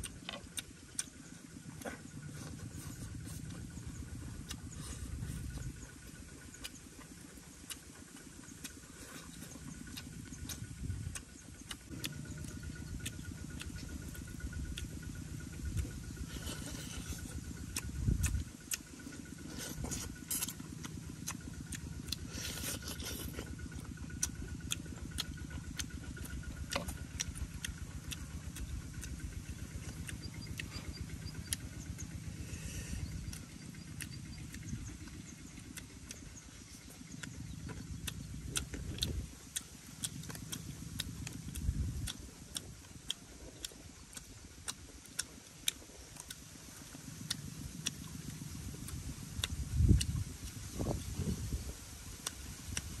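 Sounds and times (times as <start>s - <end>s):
man chewing and smacking lips: 0.0s - 53.0s.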